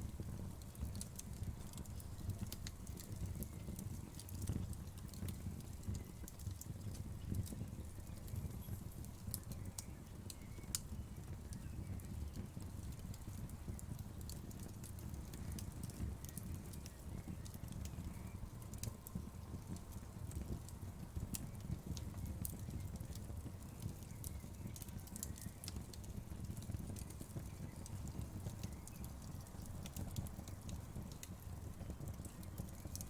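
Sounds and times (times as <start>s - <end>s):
fire crackling: 0.0s - 33.0s.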